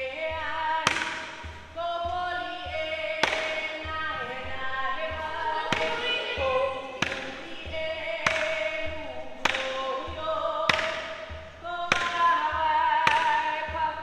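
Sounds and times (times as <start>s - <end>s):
sharp percussive strikes: 0.0s - 13.8s
voices singing a melody: 0.0s - 14.0s.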